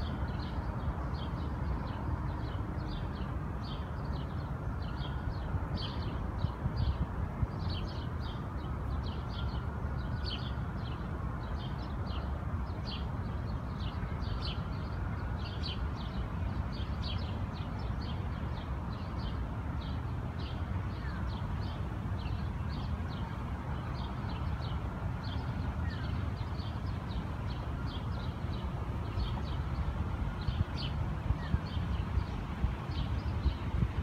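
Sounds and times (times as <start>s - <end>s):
low rumble of city traffic: 0.0s - 34.0s.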